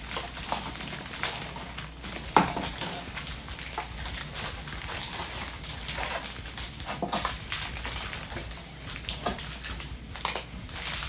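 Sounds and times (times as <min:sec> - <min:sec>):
foil packs crinkling: 0:00.0 - 0:11.0.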